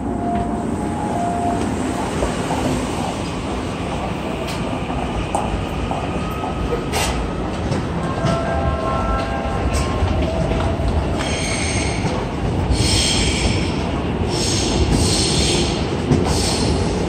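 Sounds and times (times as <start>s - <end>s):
station rumble and walking crowd: 0.0s - 17.0s.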